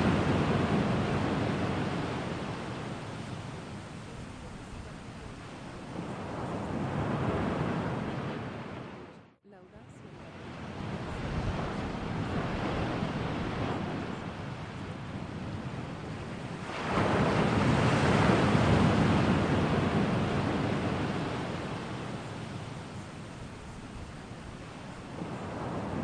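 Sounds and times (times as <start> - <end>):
ocean surf washing in: 0.0 - 9.2, 10.0 - 26.0.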